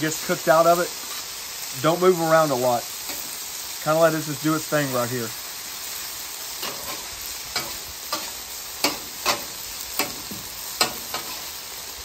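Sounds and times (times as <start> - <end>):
potatoes sizzling on a griddle: 0.0 - 12.0.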